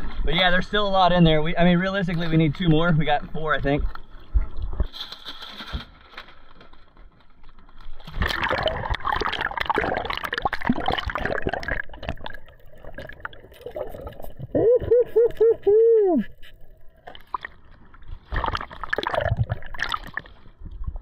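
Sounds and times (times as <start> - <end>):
sea water splashing and gurgling: 0.0 - 21.0.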